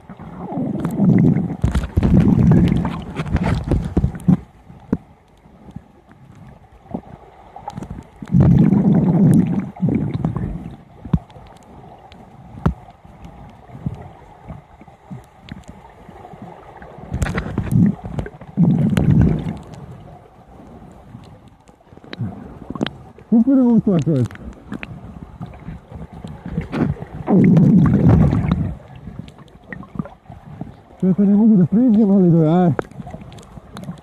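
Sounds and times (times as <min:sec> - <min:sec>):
underwater exhaled bubbles: 0:00.0 - 0:05.0, 0:05.6 - 0:34.0
faint crackling and clicking: 0:00.0 - 0:34.0.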